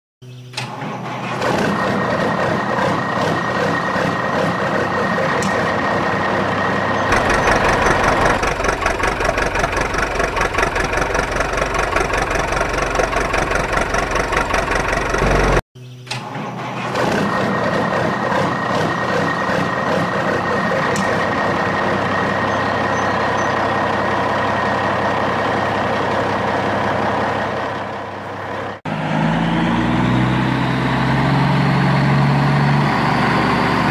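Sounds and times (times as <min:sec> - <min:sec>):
truck engine running: 0:00.6 - 0:15.6, 0:16.2 - 0:33.9.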